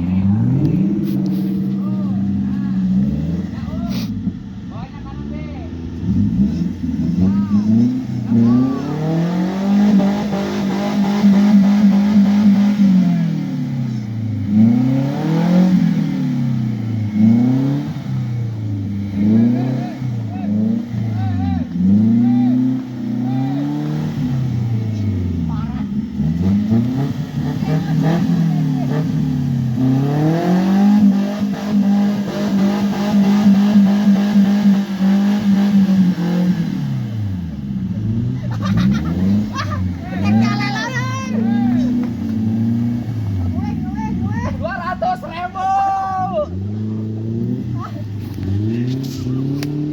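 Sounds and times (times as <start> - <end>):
engine revving: 0.0 - 45.6, 46.2 - 49.9.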